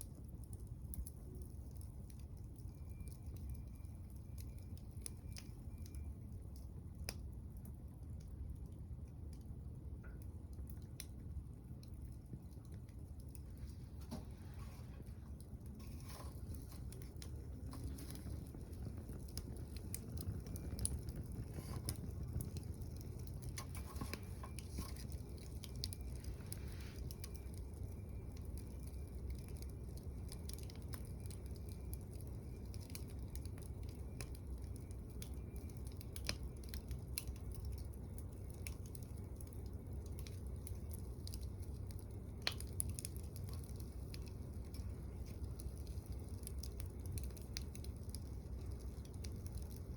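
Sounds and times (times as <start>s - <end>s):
burning wood crackling and popping: 0.0s - 49.9s
wood fire burning in stove: 0.0s - 49.9s.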